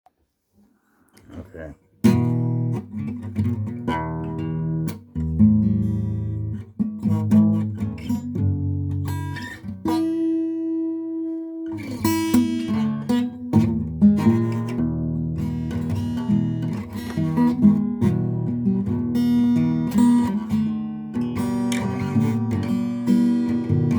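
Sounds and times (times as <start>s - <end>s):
blues guitar playing: 2.0s - 23.9s.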